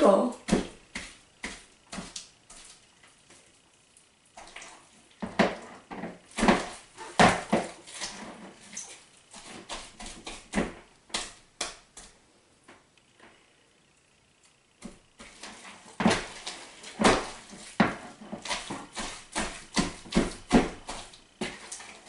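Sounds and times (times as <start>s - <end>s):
wet squishes of slime: 0.4s - 12.2s, 14.8s - 22.0s.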